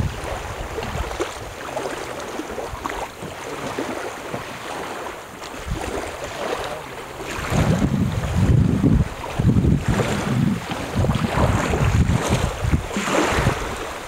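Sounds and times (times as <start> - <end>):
small waves lapping: 0.0 - 14.0
wind on microphone: 0.0 - 14.0.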